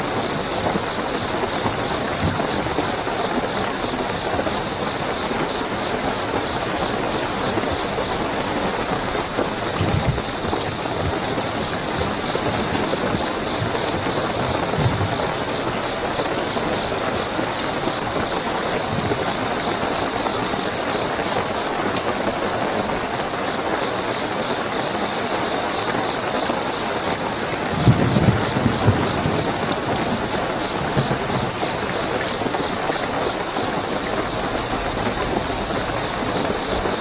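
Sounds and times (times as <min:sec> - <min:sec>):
crickets chirping: 0:00.0 - 0:37.0
heavy rainfall: 0:00.0 - 0:37.0.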